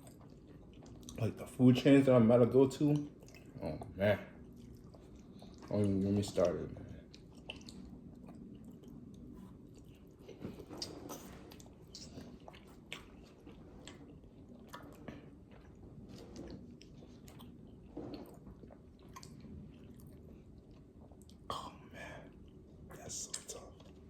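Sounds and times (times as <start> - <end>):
chewing crunchy food: 0.0 - 24.0.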